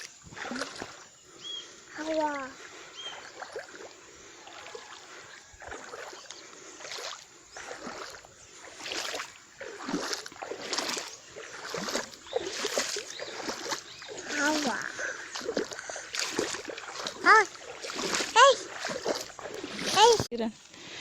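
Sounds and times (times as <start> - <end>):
river water running: 0.0 - 21.0
water splashing and sloshing: 0.0 - 21.0.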